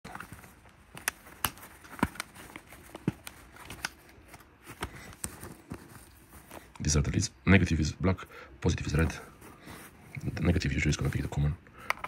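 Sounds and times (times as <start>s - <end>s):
faint rustling: 0.1s - 7.3s, 8.8s - 11.6s.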